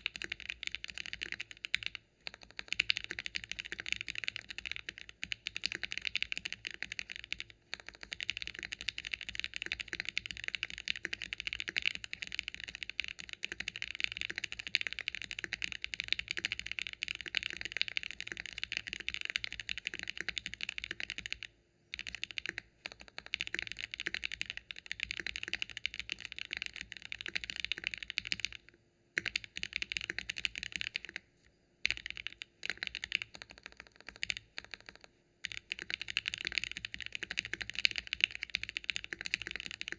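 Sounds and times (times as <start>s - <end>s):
fast typing on mechanical keyboard: 0.0s - 31.2s, 31.8s - 39.9s.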